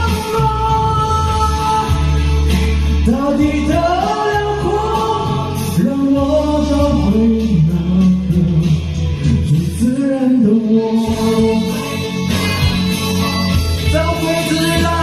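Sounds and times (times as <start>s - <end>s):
man singing a pop ballad: 0.0s - 12.7s, 13.7s - 15.0s
instrumental accompaniment with bass: 0.0s - 15.0s.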